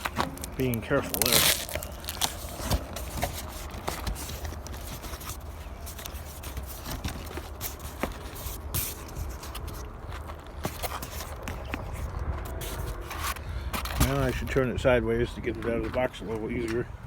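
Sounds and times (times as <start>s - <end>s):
cardboard box scraping: 0.0s - 14.4s
low steady rumble: 0.0s - 17.0s.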